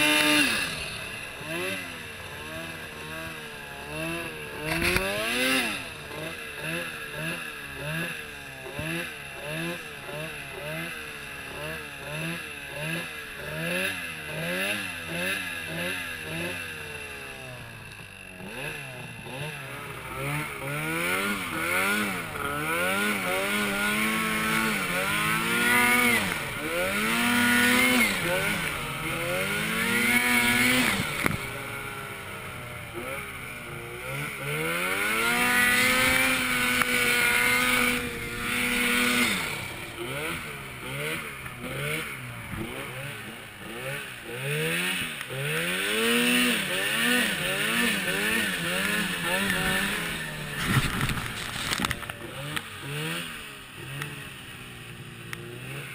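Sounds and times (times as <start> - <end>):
snowmobile engine revving: 0.0 - 55.9.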